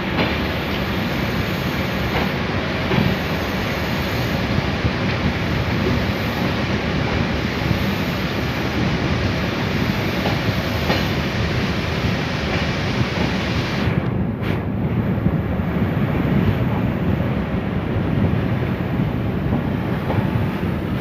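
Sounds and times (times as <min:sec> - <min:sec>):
train running on track: 0:00.0 - 0:21.0.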